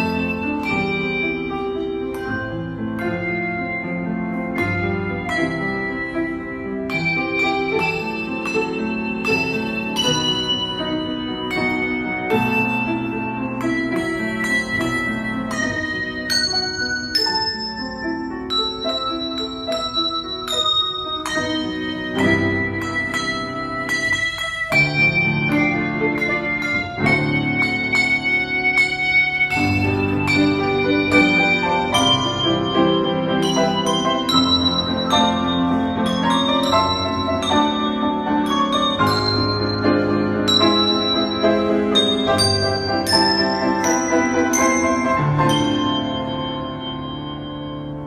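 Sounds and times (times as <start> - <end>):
ringing bells: 0.0 - 48.0.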